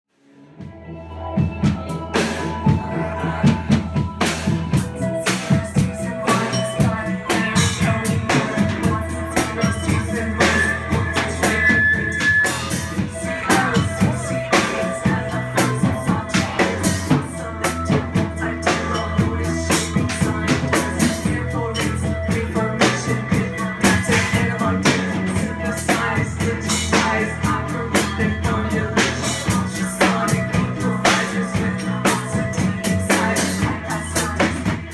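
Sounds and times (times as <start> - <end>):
electric bass: 0.2 - 34.9
synthesizer keyboards: 0.2 - 34.9
drum kit beat: 1.4 - 34.9.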